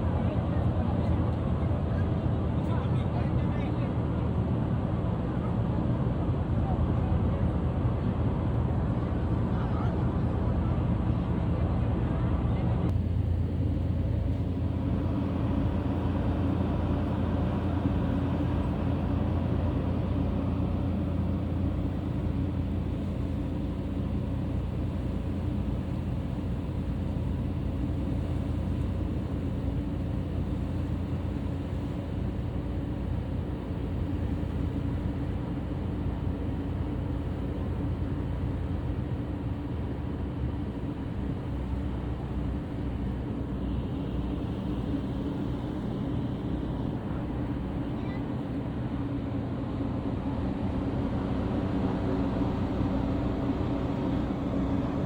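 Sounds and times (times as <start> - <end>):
ferry engine droning: 0.0 - 55.0.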